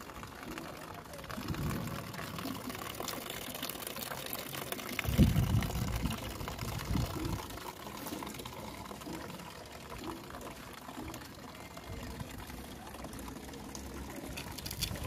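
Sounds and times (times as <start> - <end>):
water running into plastic bucket: 0.0 - 15.0.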